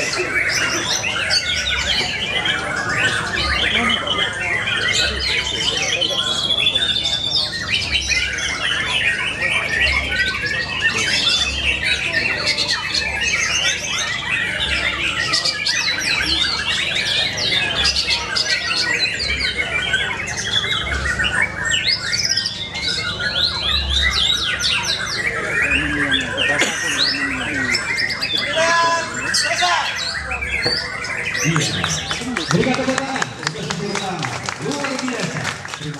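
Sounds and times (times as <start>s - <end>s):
other birds singing: 0.0s - 35.9s.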